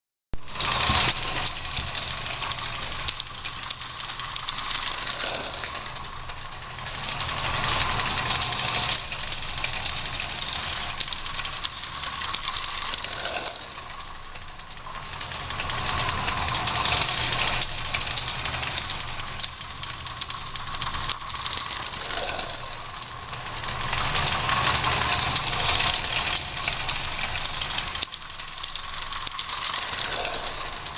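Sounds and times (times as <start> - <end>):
toy steam locomotive chuffing: 0.4 - 30.9.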